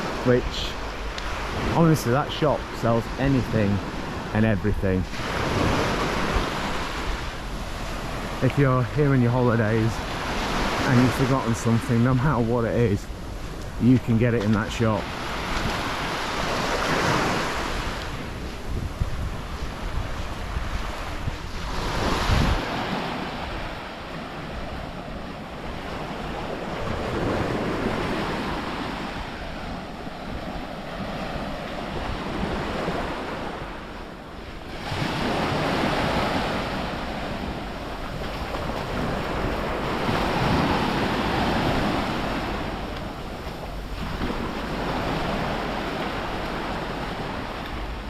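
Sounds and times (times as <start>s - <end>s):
waves breaking on beach: 0.0s - 48.0s
wind rumbling on microphone: 0.0s - 48.0s.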